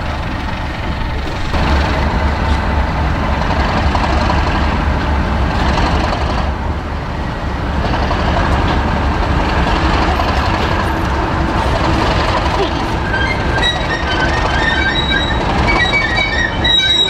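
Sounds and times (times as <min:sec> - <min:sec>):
diesel locomotive engines droning: 0:00.0 - 0:17.0.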